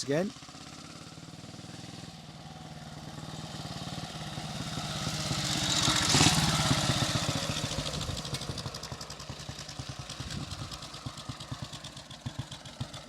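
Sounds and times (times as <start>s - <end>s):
motorcycle engine passing by: 0.0s - 13.0s.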